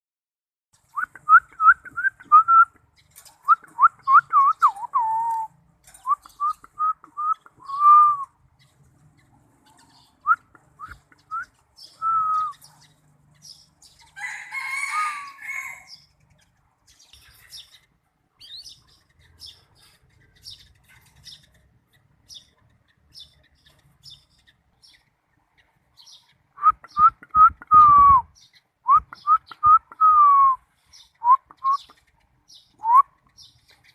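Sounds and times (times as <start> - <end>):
lovebird chirping: 0.8 - 14.4, 15.2 - 30.0, 30.6 - 33.9.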